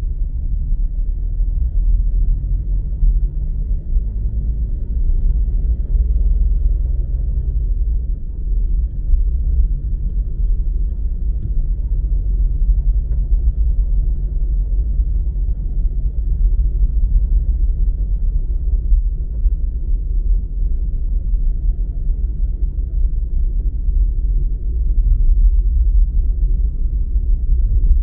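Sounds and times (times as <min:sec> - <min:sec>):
loud low rumble: 0:00.0 - 0:28.0.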